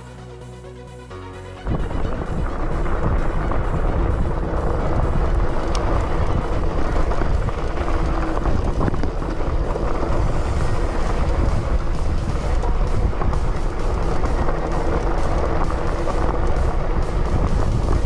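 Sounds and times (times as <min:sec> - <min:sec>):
bike and stones rattling: 0:01.6 - 0:18.0
wind and tyre rumble: 0:01.6 - 0:18.0.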